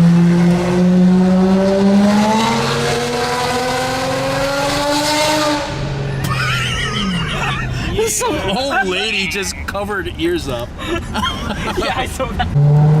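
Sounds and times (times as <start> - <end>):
car engine at high revs: 0.0 - 9.7, 10.7 - 13.0.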